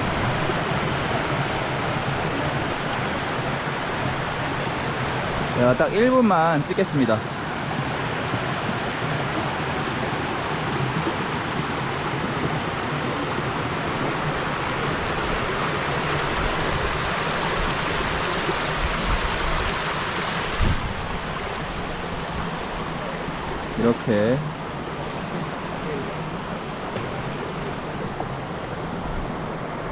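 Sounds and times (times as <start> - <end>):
water rushing in shallow channel: 0.0 - 29.9.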